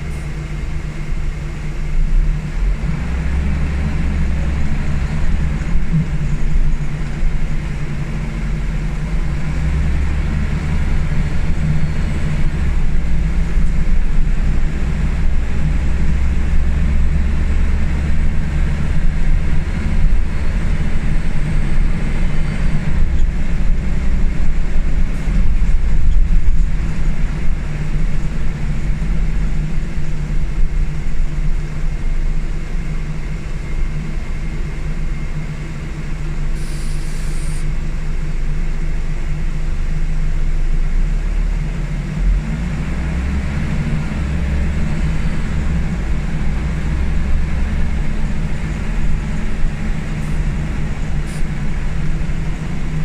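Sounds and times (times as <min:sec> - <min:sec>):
bus diesel engine drone: 0:00.0 - 0:53.0
road and body rumble: 0:00.0 - 0:53.0.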